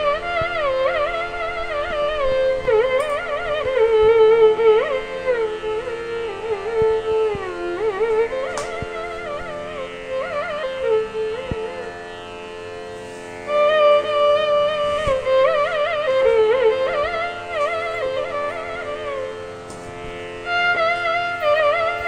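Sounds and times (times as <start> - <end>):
melodic instrument bending notes: 1.2 - 12.8, 13.6 - 22.0.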